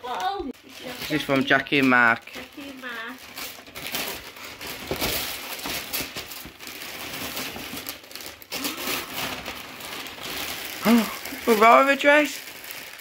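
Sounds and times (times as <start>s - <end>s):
wrapping paper rustling: 0.0s - 13.0s.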